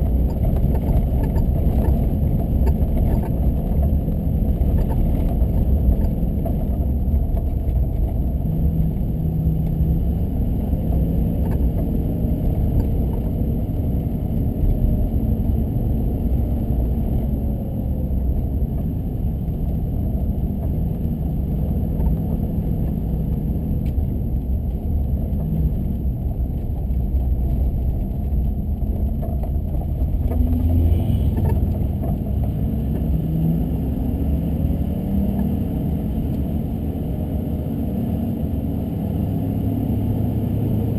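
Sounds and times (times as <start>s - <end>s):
car engine: 0.0s - 40.9s
road rumble: 0.0s - 40.9s.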